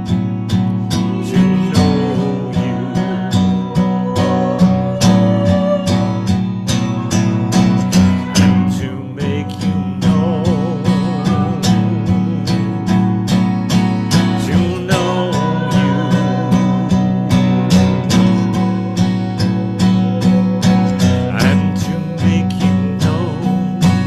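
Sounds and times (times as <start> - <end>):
acoustic guitar strumming: 0.0 - 24.0
person singing worship song: 0.9 - 6.6, 8.2 - 12.9, 14.4 - 23.8.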